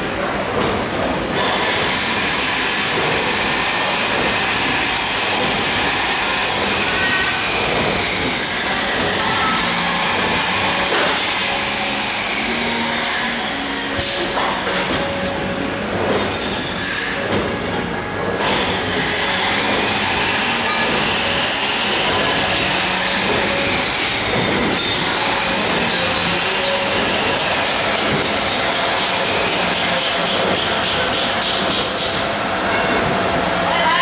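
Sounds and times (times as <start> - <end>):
high machine whine: 0.0 - 34.0
machine rollers and drives din: 0.0 - 34.0.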